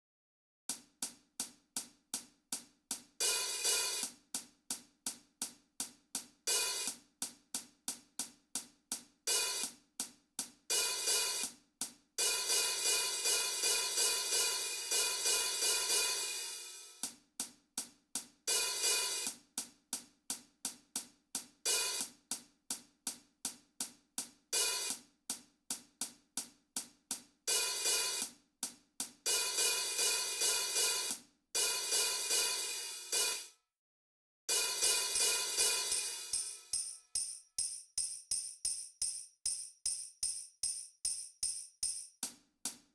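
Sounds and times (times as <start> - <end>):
hi-hat and tambourine ticks: 0.7 - 33.4, 34.5 - 42.9.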